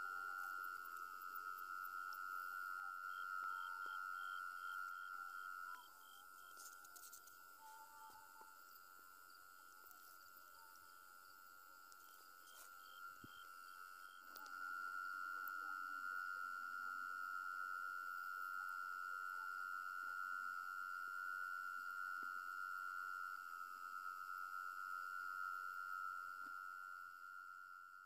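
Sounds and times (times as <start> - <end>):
high-pitched insect trill: 0.0 - 28.0.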